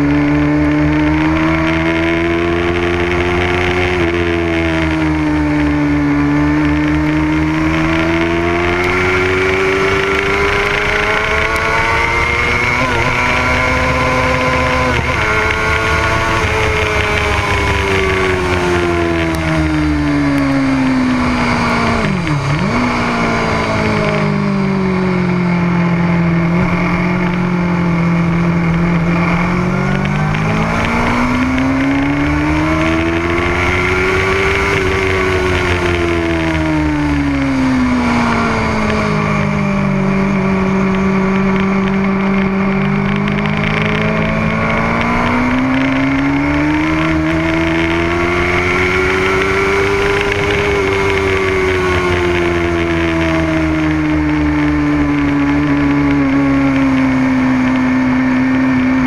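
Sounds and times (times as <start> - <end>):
motorcycle engine revving: 0.0 - 59.0
steady rushing noise: 0.0 - 59.0.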